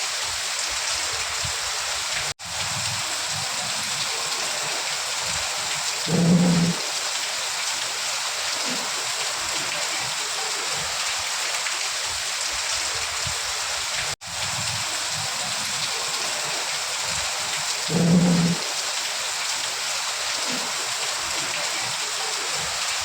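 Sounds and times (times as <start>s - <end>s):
rain hiss: 0.0s - 23.0s.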